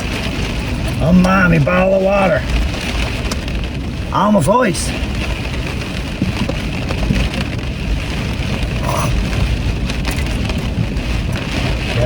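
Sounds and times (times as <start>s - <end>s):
rain on a car roof: 0.0s - 12.0s.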